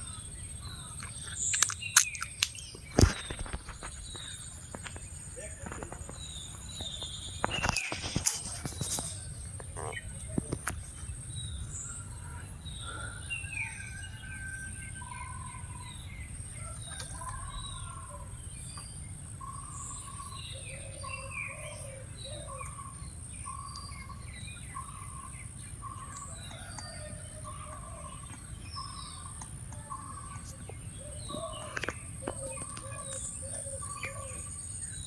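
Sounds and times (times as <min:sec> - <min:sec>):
wild birds chirping: 0:00.0 - 0:35.0.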